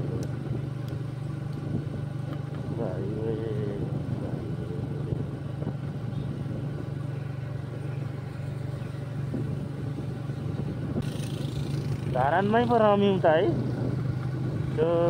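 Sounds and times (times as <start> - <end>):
motorcycle engine droning: 0.0 - 15.0
road and air noise: 0.0 - 15.0.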